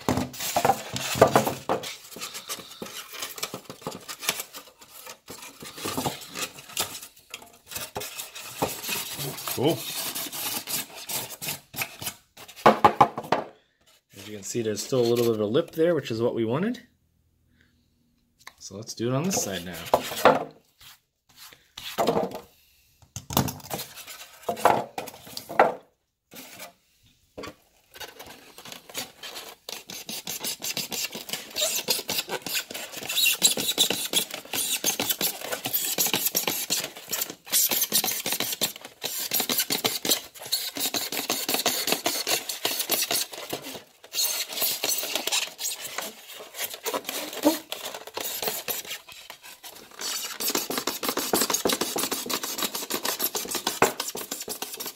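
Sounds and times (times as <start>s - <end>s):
knife scraping styrofoam: 0.0s - 12.6s, 13.9s - 15.5s, 19.2s - 22.2s, 23.7s - 25.5s, 26.3s - 26.8s, 27.9s - 54.9s.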